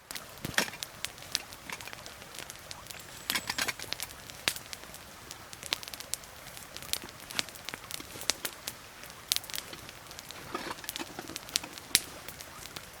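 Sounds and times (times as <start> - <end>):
campfire crackling: 0.0 - 13.0
faint steady hiss: 0.0 - 13.0.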